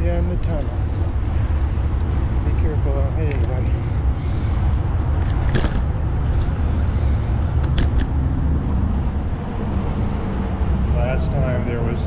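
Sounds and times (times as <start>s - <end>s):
wind buffeting microphone: 0.0s - 12.0s
bicycle tyres rolling on pavement: 0.1s - 12.0s.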